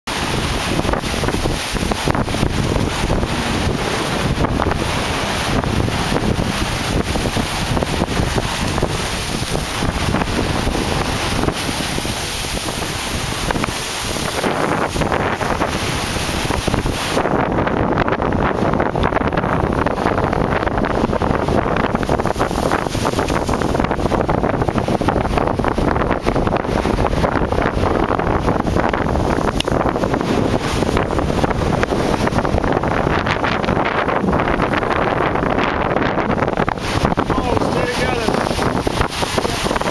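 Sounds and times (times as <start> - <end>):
waves washing against boulders: 0.1 - 39.9
wind buffeting microphone: 0.1 - 39.9.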